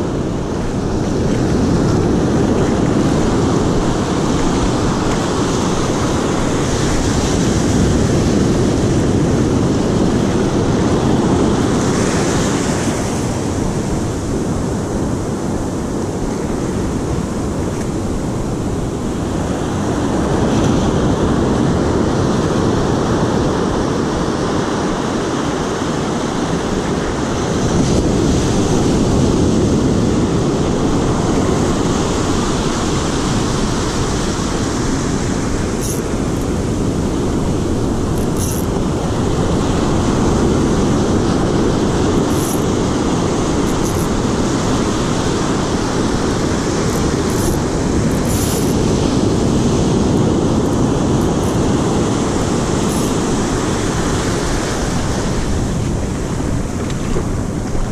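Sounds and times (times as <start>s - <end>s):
ocean surf washing up beach: 0.0s - 57.9s
wind on microphone: 0.0s - 57.9s.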